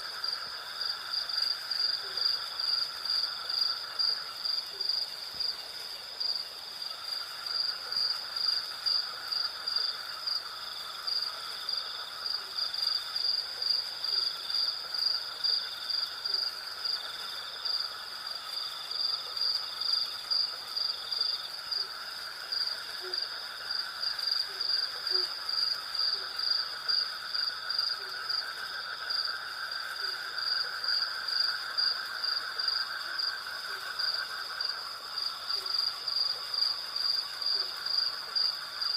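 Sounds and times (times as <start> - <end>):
crickets pulsing chirping: 0.0 - 38.9
low steady insect buzzing: 0.0 - 38.9.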